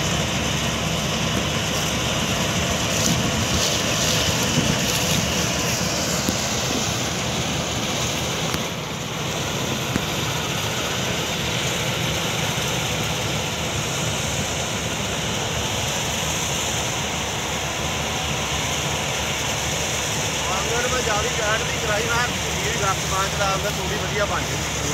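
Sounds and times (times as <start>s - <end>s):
combine harvester droning: 0.0s - 24.9s.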